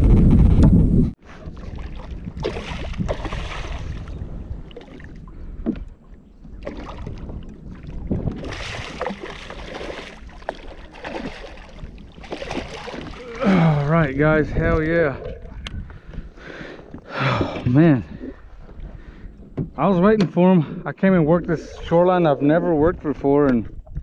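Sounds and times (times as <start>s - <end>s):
water splashing around kayak: 1.1s - 20.6s.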